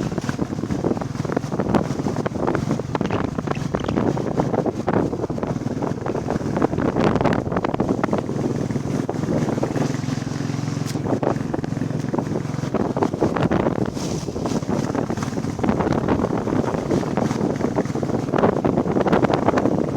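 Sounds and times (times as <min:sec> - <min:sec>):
motorcycle engine running: 0:00.0 - 0:19.9
wind buffeting microphone: 0:00.0 - 0:19.9.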